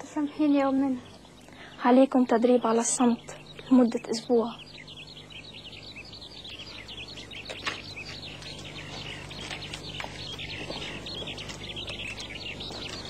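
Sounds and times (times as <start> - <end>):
faint low hum: 0.0 - 13.0
small birds chirping: 0.0 - 13.0.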